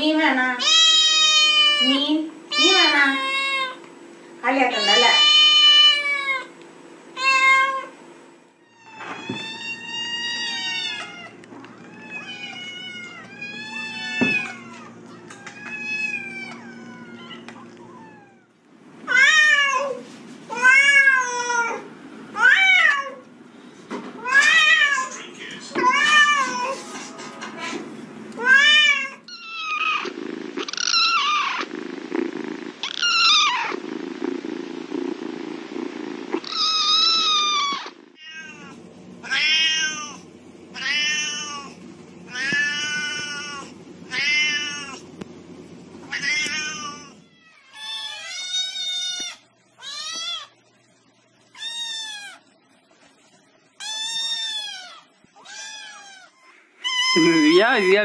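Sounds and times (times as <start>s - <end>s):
steady low hum: 0.0s - 57.6s
cats meowing: 0.6s - 3.8s, 4.7s - 6.5s, 7.2s - 7.9s, 8.6s - 23.3s, 24.2s - 26.8s, 28.3s - 45.1s, 46.0s - 50.6s, 51.4s - 52.6s, 53.8s - 58.0s.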